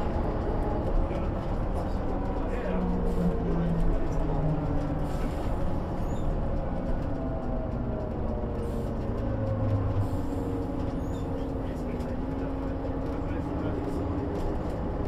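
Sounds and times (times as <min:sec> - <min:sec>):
bus engine running on board: 0:00.0 - 0:15.0.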